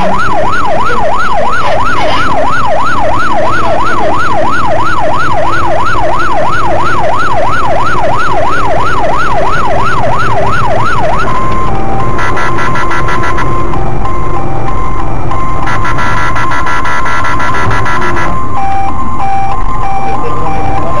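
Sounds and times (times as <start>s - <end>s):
police siren yelping: 0.0s - 21.0s
road and engine noise: 0.0s - 21.0s.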